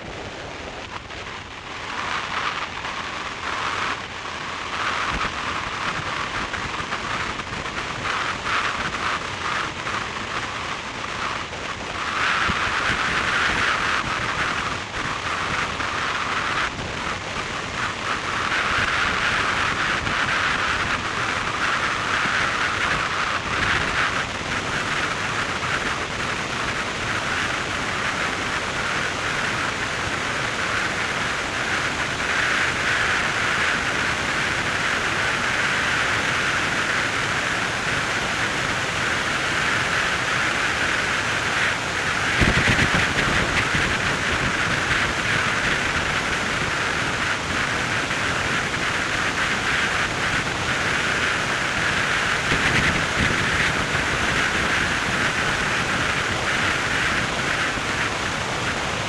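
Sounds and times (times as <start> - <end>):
wind rush from driving car: 0.0 - 59.0.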